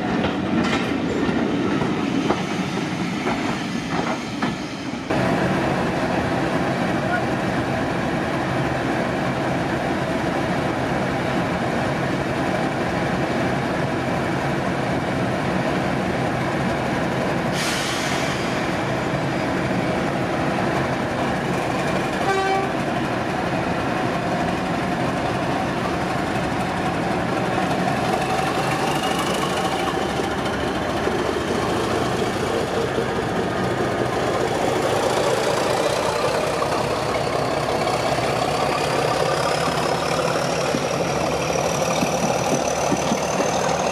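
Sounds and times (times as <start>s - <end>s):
diesel locomotive engine: 0.0s - 43.9s.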